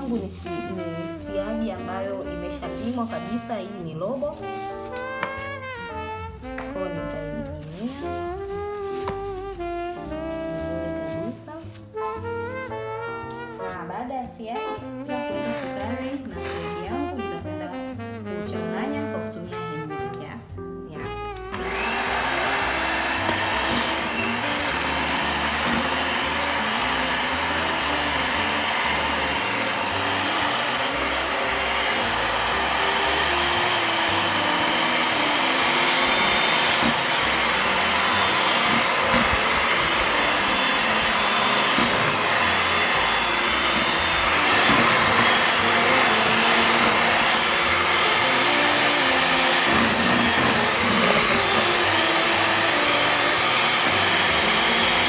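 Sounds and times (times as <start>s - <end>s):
electric hand mixer whirring: 0.0s - 13.7s, 15.2s - 17.1s, 21.4s - 55.0s.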